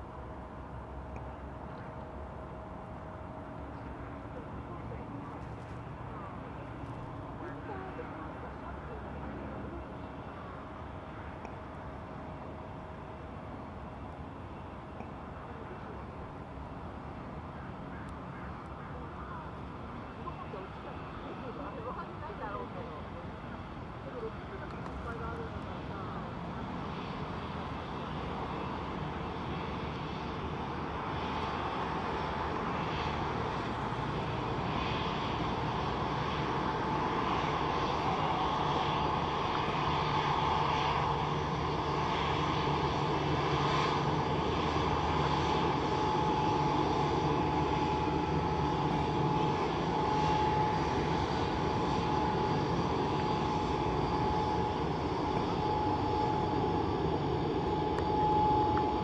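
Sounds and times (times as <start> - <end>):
jet engine whine: 0.0 - 59.0
jet engines rumbling: 0.0 - 59.0.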